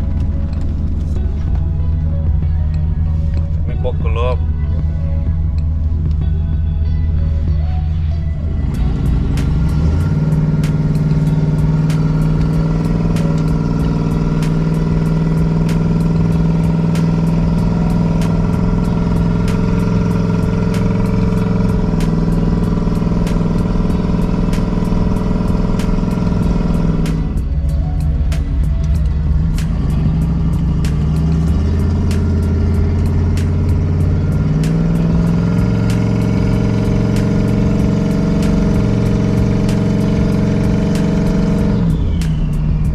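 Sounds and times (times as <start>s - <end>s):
regular engine ticking: 0.0s - 42.9s
truck engine running: 0.0s - 42.9s.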